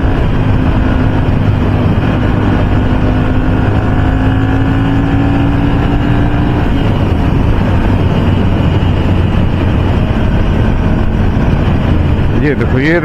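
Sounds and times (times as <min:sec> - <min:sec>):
high vehicle tone: 0:00.0 - 0:13.0
motorcycle engine cruising: 0:00.0 - 0:13.0
wind on microphone: 0:00.0 - 0:13.0.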